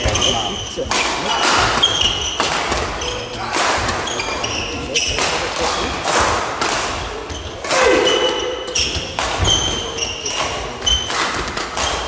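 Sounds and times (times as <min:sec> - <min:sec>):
rackets hitting shuttlecock: 0:00.0 - 0:12.0
shoes squeaking on floor: 0:00.0 - 0:12.0.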